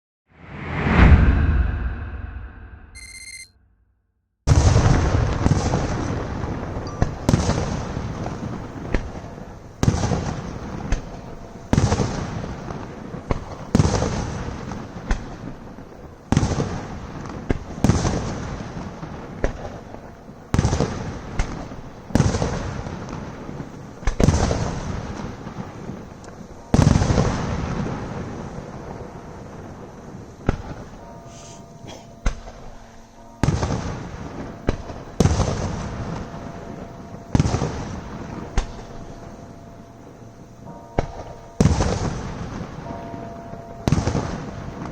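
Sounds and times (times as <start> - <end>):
fireworks exploding with echo: 4.5 - 44.9.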